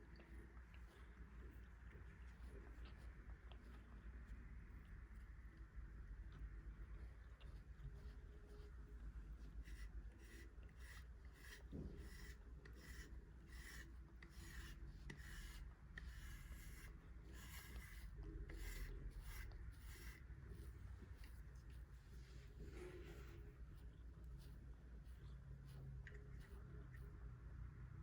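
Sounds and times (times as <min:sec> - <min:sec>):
brush stroking cat fur: 0:00.0 - 0:27.6.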